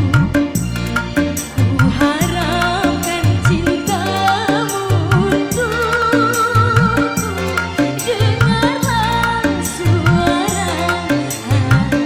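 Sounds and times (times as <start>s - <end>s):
hand drum beats: 0.0s - 12.0s
ornamented melodic line: 0.0s - 12.0s.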